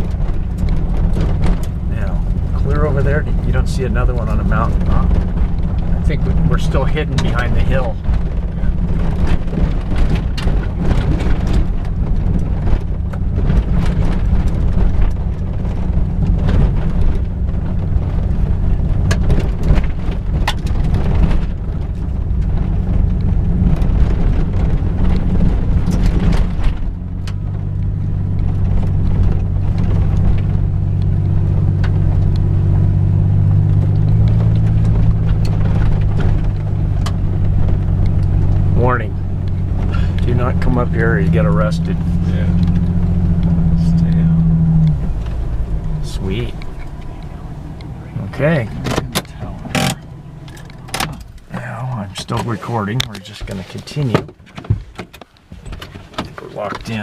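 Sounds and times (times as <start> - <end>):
car engine running: 0.0 - 57.0
knocks and rattles over rough track: 0.0 - 57.0.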